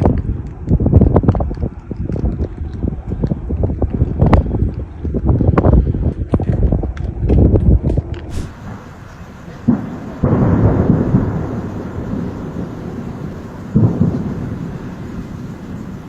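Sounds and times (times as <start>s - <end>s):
thunder claps and rumble: 0.0s - 16.0s.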